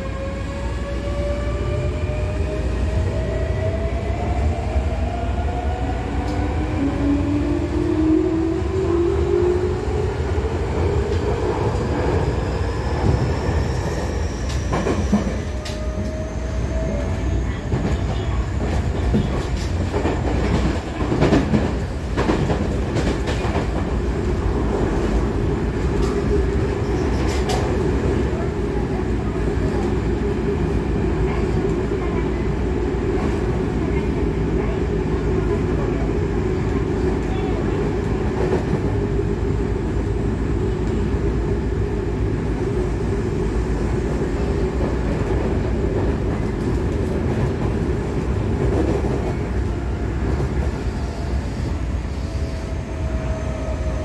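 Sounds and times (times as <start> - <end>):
train running rumble: 5.0 - 54.0.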